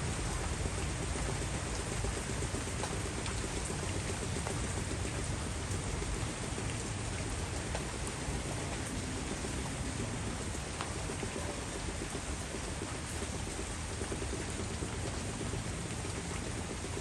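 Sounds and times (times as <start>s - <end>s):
heavy rain falling: 0.0s - 17.0s
raindrops ticking on surfaces: 0.0s - 17.0s.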